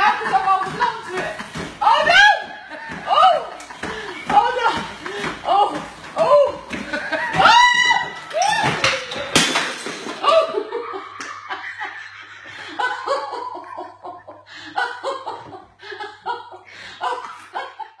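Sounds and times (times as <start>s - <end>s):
hearty laughter: 0.0s - 5.7s, 6.3s - 8.3s, 10.2s - 18.0s.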